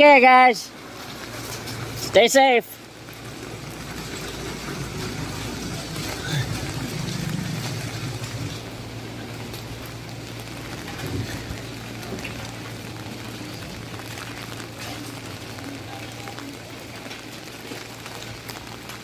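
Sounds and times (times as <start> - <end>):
heavy rain falling: 0.0 - 19.0
low steady hum: 0.3 - 19.0.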